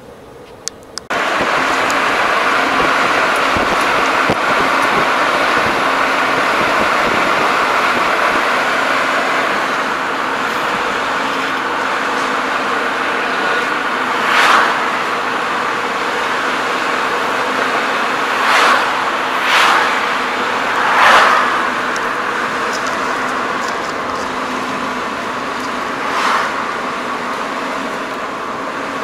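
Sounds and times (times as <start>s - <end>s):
car road and engine noise: 0.0s - 29.0s
vehicles whooshing past: 1.1s - 29.0s.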